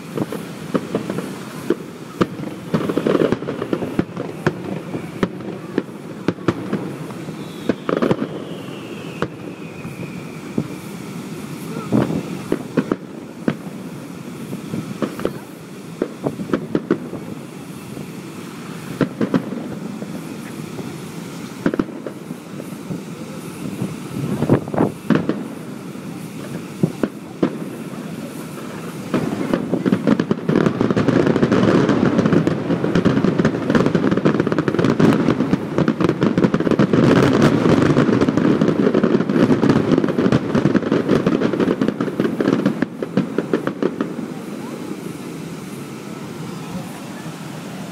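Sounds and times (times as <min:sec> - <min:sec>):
fireworks booms and crackles: 0:00.0 - 0:47.9.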